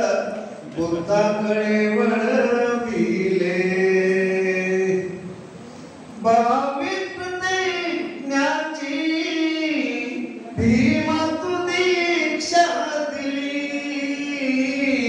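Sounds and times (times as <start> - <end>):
person singing unaccompanied: 0.0 - 5.3, 6.2 - 15.0.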